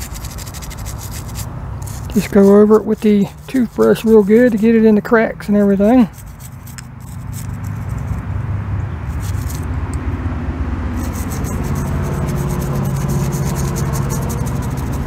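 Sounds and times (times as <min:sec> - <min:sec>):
toothbrush scrubbing metal: 0:00.0 - 0:08.2, 0:09.1 - 0:09.7, 0:10.9 - 0:15.0
low engine rumble: 0:00.0 - 0:15.0.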